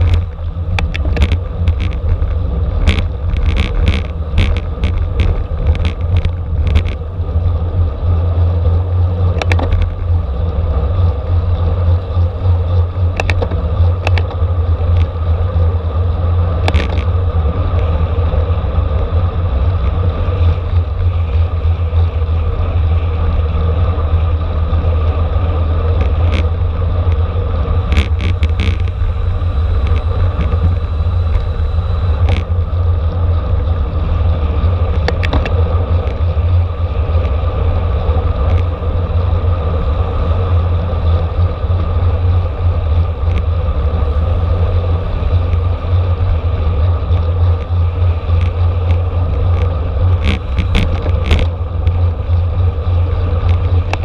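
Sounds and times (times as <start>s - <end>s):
bicycle clicks and rattles: 0.0s - 54.0s
wind and road noise: 0.0s - 54.0s.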